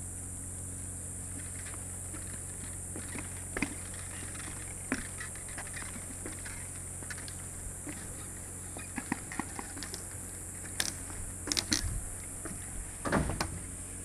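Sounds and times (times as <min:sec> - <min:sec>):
high-pitched insect drone: 0:00.0 - 0:13.0
footsteps and knocks on walkway: 0:01.3 - 0:13.6.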